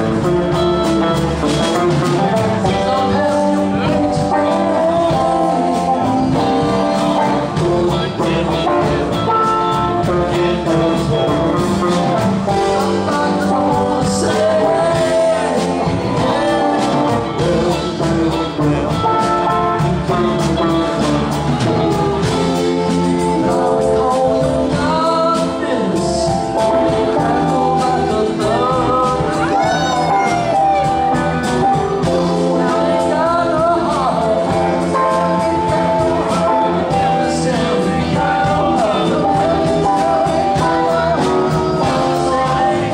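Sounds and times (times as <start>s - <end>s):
person singing: 0.0s - 42.9s
rock band playing: 0.0s - 42.9s.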